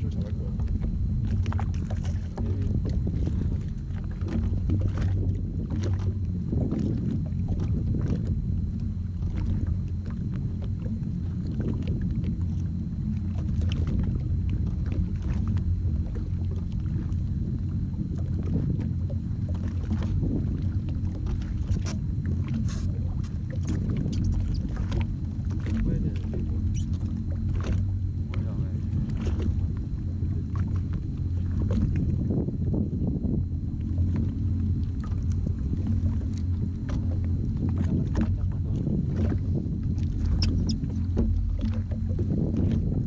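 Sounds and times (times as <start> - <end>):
jet ski engine idling: 0.0 - 43.0.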